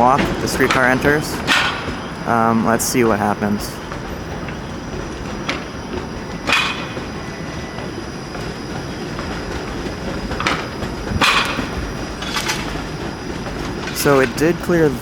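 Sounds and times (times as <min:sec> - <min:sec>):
streetcar rumbling: 0:00.0 - 0:15.0
wheels clunking over track switches: 0:00.0 - 0:15.0.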